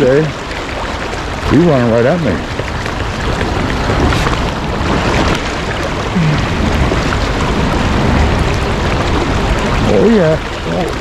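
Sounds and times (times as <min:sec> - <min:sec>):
heavy rain: 0:00.0 - 0:11.0
river water rushing: 0:00.0 - 0:11.0
wind on microphone: 0:00.0 - 0:11.0.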